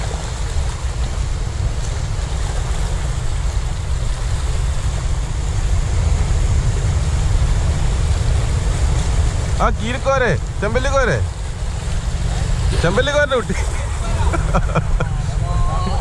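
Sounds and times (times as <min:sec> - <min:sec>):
small waves washing on rocks: 0:00.0 - 0:16.0
wind buffeting microphone: 0:00.0 - 0:16.0.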